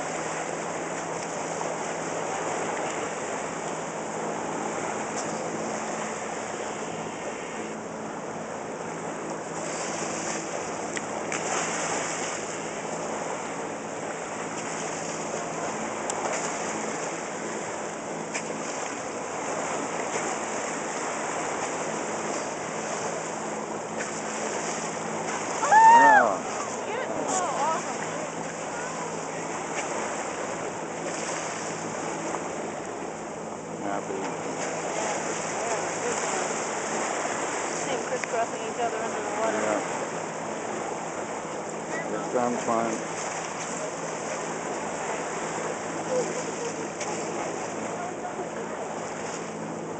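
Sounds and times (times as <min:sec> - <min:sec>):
faint low engine hum: 0:00.0 - 0:49.9
water rushing along boat hull: 0:00.0 - 0:49.9.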